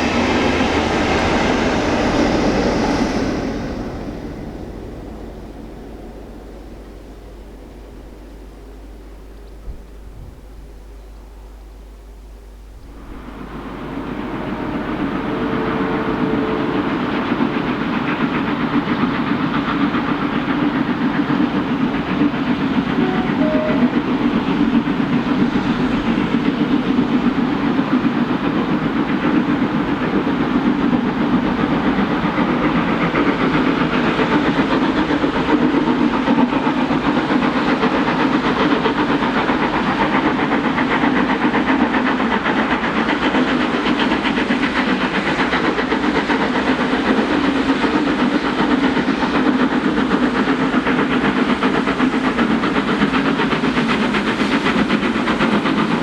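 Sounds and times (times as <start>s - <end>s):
steam locomotive rushing steam: 0.0s - 56.0s.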